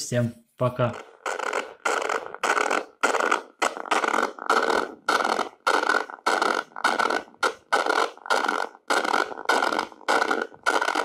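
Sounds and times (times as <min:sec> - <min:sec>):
synth noise bursts: 0:00.8 - 0:11.0.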